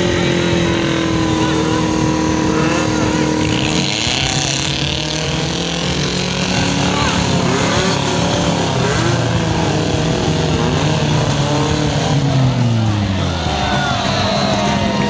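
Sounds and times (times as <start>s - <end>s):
buggy engine under load: 0.0s - 15.0s
onlookers talking: 0.0s - 15.0s.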